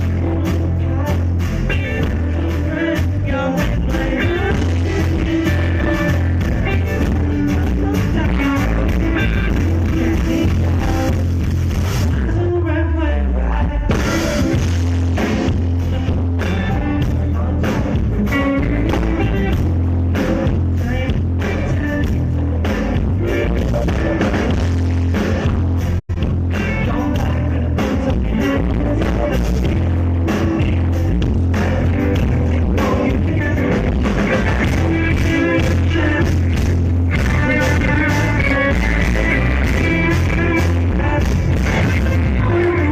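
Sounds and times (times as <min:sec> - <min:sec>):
person singing: 0:00.0 - 0:25.7, 0:26.4 - 0:42.9
live rock band: 0:00.0 - 0:42.9.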